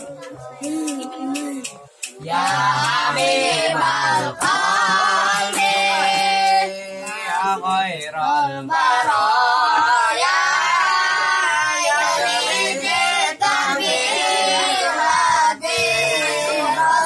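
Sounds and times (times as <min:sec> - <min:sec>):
children singing devotional song: 0:00.0 - 0:17.0.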